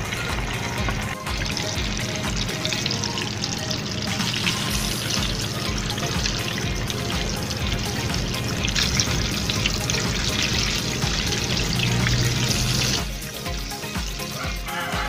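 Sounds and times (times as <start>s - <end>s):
chicken deep-frying in oil: 0.0s - 15.0s.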